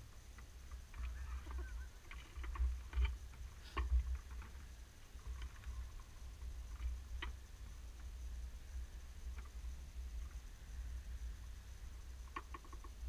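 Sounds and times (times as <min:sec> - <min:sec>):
faint clicks and ticks: 0:00.0 - 0:13.0.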